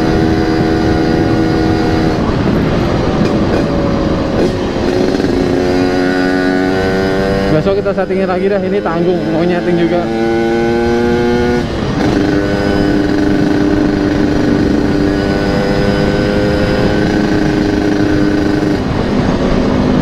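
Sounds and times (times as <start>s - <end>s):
two-stroke motorcycle engine riding: 0.0s - 20.0s.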